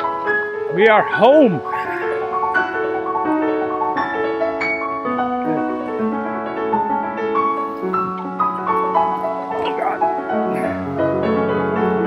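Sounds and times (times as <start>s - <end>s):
keyboard melody over chords: 0.0s - 12.0s.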